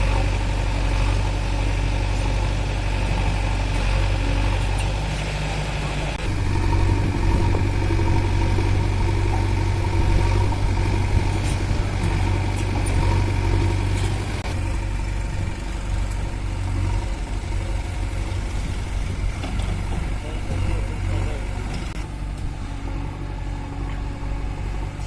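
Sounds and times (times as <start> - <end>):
diesel engine running at low revs: 0.0 - 25.0.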